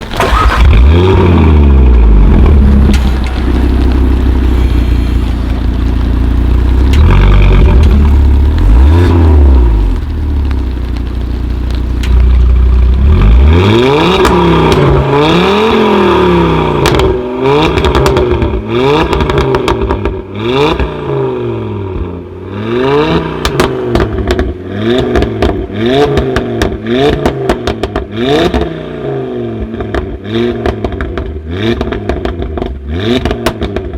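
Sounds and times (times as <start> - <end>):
exhaust pops and crackles: 0.0 - 20.9, 23.4 - 28.6, 29.6 - 33.9
car engine revving: 0.0 - 33.9.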